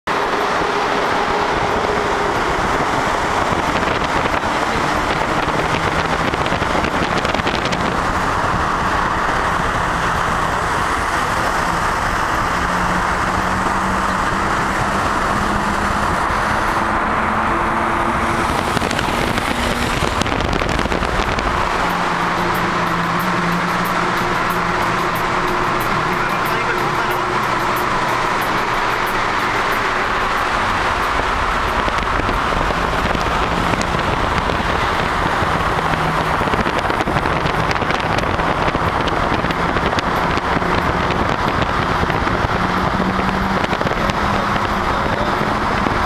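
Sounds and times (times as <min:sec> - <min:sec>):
car roar echoing in tunnel: 0:00.0 - 0:46.0.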